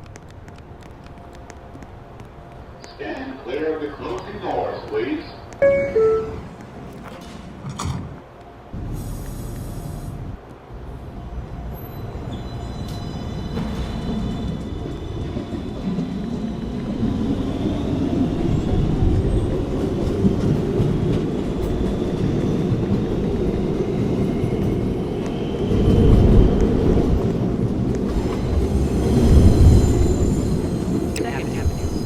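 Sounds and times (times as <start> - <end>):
subway train rumbling on rails: 0.0 - 32.0.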